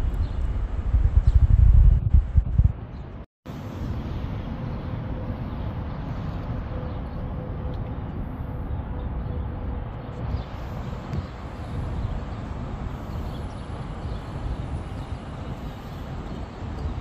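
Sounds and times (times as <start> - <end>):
distant traffic noise: 2.8 - 17.0.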